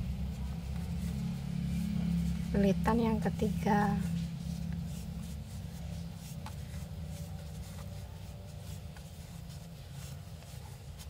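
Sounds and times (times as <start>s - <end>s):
steady low hum: 0.0s - 11.0s
yarn rubbing and rustling: 0.0s - 11.0s.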